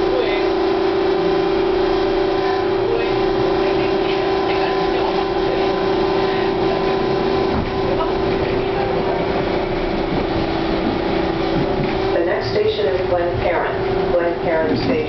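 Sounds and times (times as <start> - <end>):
subway running gear whine: 0.0 - 15.0
wheels rumbling on rails: 0.0 - 15.0.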